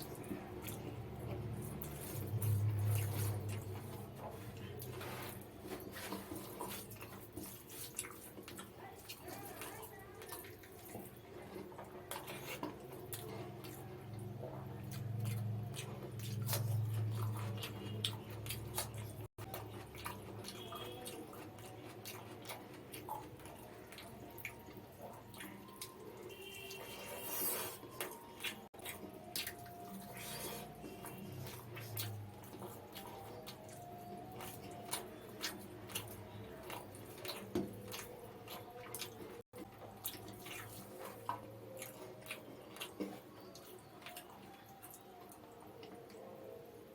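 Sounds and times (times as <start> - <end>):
wet eating squelches: 0.0 - 46.9.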